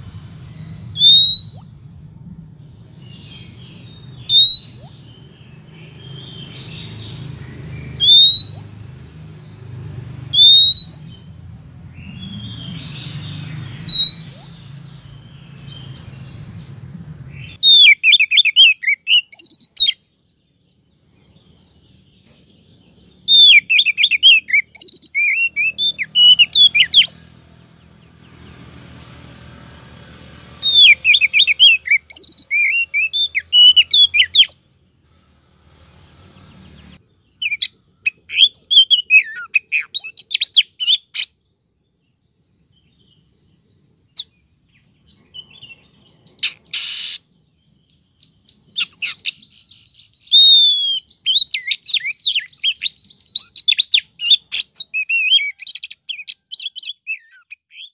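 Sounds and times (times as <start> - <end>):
bird singing whistles and trills: 0.0 - 2.0, 2.6 - 29.2, 30.5 - 34.7, 35.8 - 41.4, 42.1 - 57.9.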